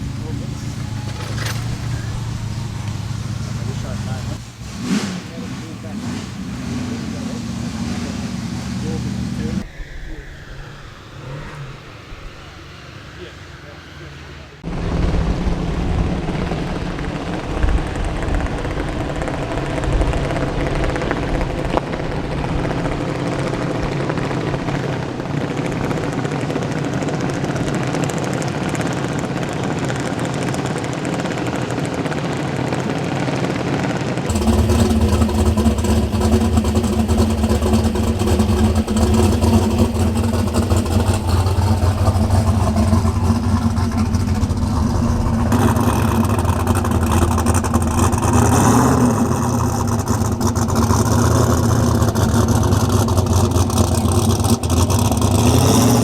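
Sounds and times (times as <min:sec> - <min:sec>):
deep loud engine running: 0:00.0 - 0:09.7, 0:11.2 - 0:56.0
drag car engines running: 0:00.0 - 0:09.7, 0:11.2 - 0:56.0.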